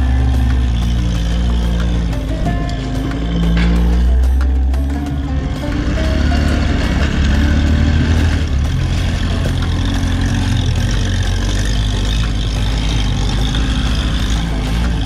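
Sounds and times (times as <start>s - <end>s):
off-road vehicle engine droning: 0.0s - 15.0s.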